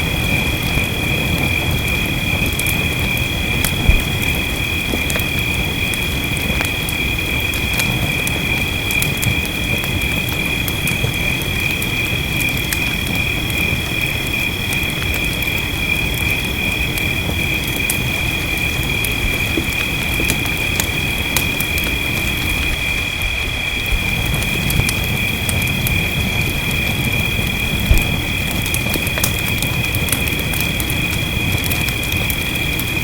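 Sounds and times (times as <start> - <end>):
fireplace crackling and popping: 0.0 - 33.0
steady rainfall: 0.0 - 33.0.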